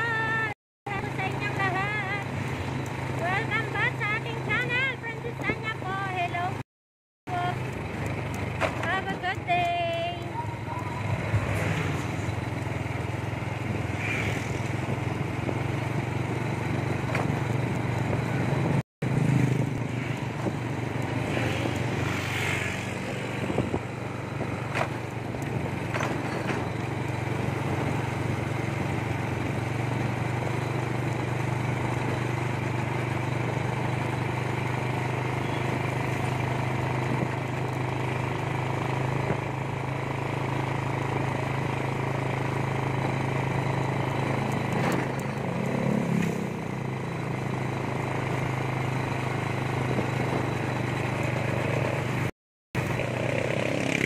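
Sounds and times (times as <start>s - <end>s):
small motorcycle engine running: 0.0s - 6.6s, 7.3s - 54.0s
wind and road noise: 0.0s - 6.6s, 7.3s - 54.0s.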